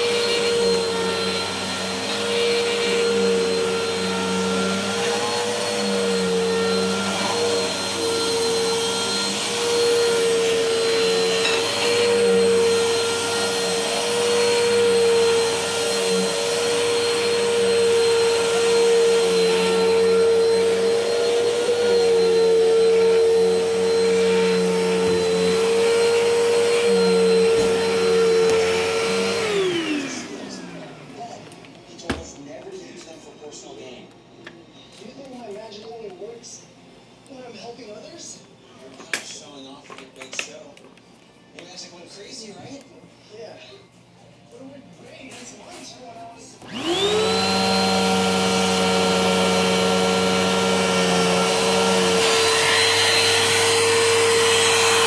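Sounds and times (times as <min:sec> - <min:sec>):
vacuum cleaner motor whine: 0:00.0 - 0:40.8, 0:41.5 - 0:55.0.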